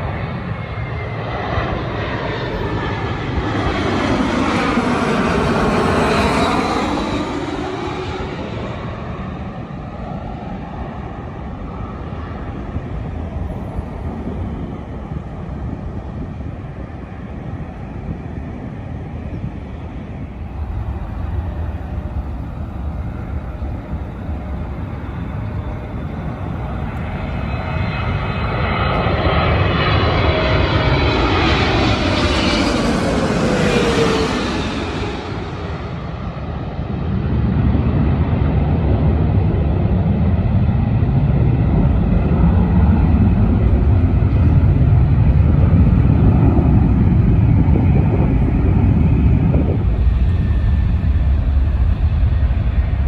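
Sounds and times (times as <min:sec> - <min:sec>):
jet airliner engine rumble: 0:00.0 - 0:53.0
jet engine whine: 0:00.0 - 0:53.0.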